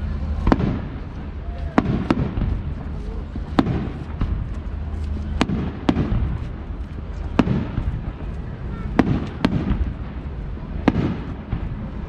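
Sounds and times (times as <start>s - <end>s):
continuous low rumble: 0.0s - 12.0s
fireworks bangs: 0.0s - 12.0s.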